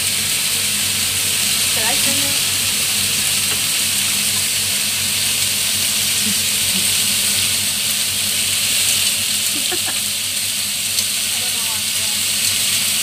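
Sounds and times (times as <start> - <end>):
chicken wings sizzling in oil: 0.0 - 13.0.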